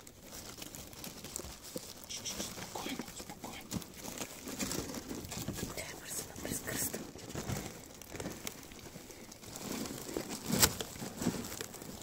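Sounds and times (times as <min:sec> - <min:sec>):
blanket rustling: 0:00.0 - 0:12.0.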